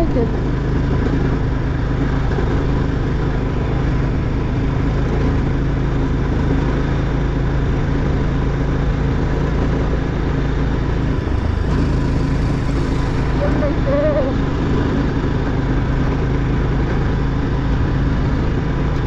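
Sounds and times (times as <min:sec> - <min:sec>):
constant rushing noise: 0:00.0 - 0:19.0
vehicle engine running: 0:00.0 - 0:19.0.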